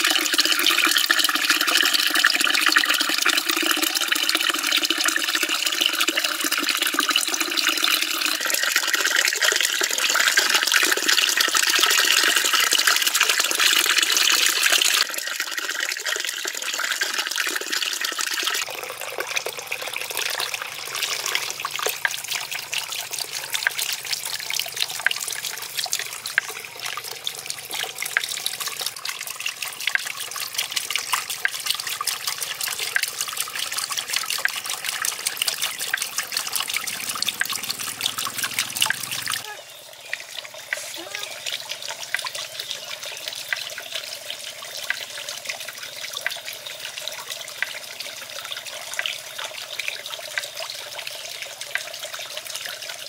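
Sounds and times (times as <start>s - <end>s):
water pouring into pool: 0.0s - 53.0s
water trickling: 0.0s - 53.0s.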